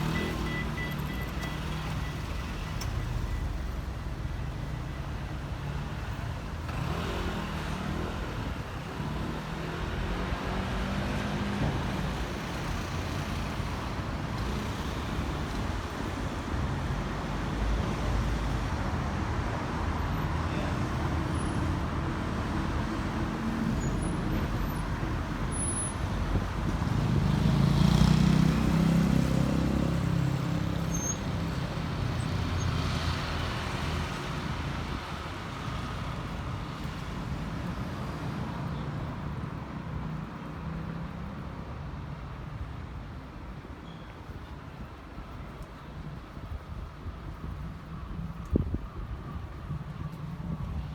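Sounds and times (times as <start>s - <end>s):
road traffic hum: 0.0s - 50.9s.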